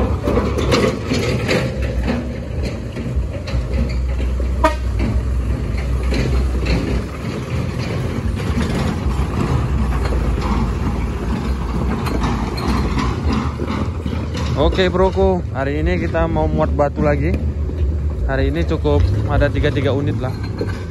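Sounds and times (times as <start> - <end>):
truck engine rumbling: 0.0 - 20.9.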